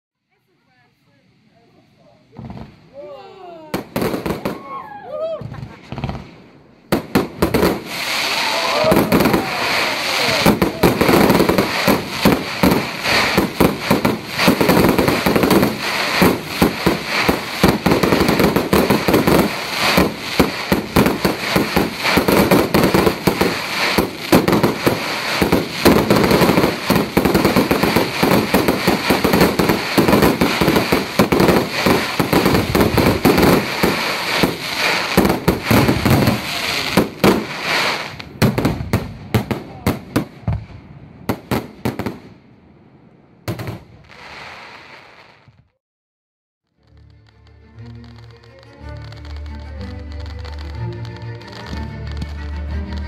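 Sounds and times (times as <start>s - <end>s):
fireworks bursting and crackling: 2.2s - 45.8s, 46.7s - 53.0s.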